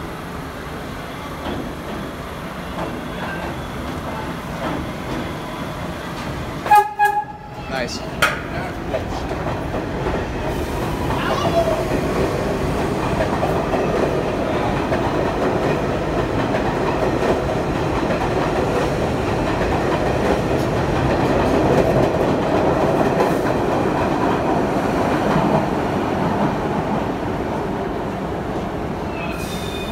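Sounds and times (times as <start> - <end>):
subway train passing: 0.0 - 29.9.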